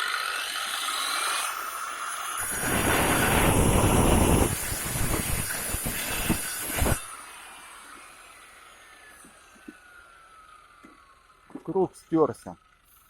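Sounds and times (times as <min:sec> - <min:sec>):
motor spinning down whine: 0:00.0 - 0:11.4
angle grinder cutting brick: 0:00.0 - 0:11.6.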